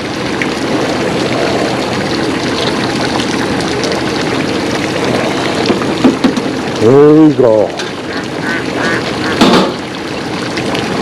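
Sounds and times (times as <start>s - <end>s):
water pouring from a tube: 0.0s - 11.0s.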